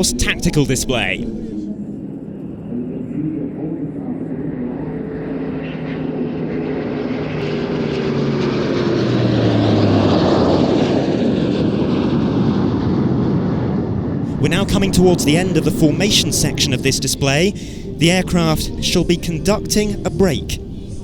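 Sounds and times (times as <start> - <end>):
aircraft formation flying past: 0.0 - 2.1, 2.9 - 21.0
propeller and engine drone: 0.0 - 21.0.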